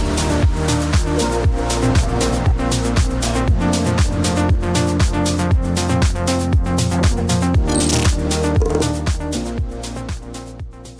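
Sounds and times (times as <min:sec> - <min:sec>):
electronic dance music: 0:00.0 - 0:10.3
kick drum beat: 0:00.0 - 0:10.8
held bass line: 0:00.0 - 0:10.9.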